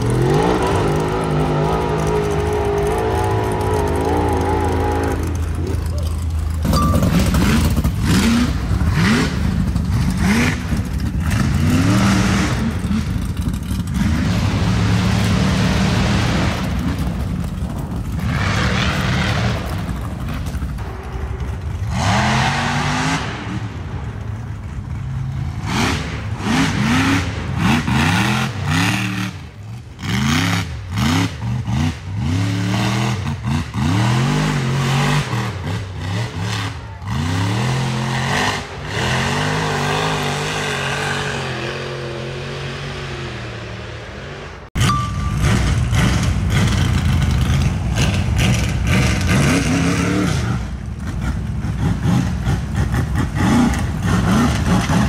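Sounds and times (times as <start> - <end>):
buggy engine revving: 0.0 - 55.0.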